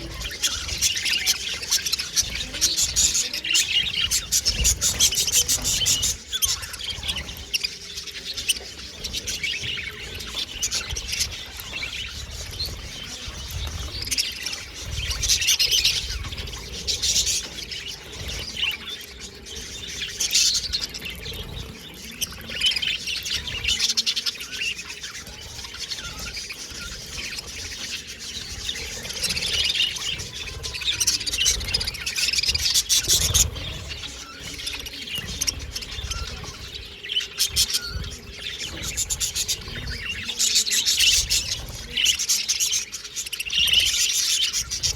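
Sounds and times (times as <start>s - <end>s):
budgerigars chirping and warbling: 0.0s - 44.9s.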